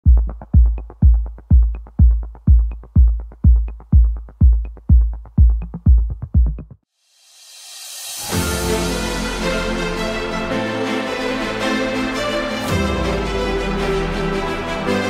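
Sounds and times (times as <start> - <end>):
electronic dance music: 0.0 - 6.8, 8.0 - 15.0.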